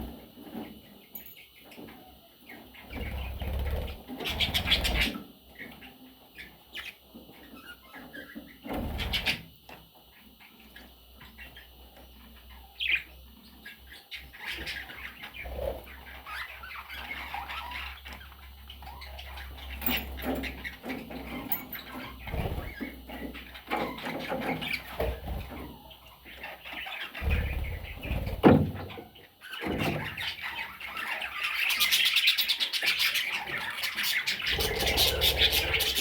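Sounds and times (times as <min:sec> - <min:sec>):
budgerigars chirping: 0:02.8 - 0:09.4, 0:10.2 - 0:36.0.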